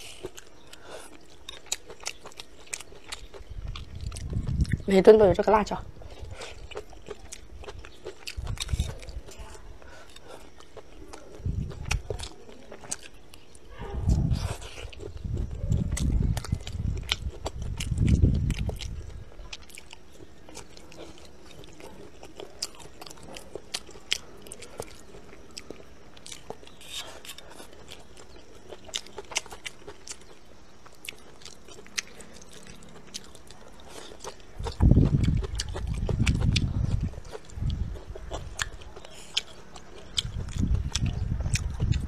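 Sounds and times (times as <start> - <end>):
chewing and crunching food: 0.0 - 42.0.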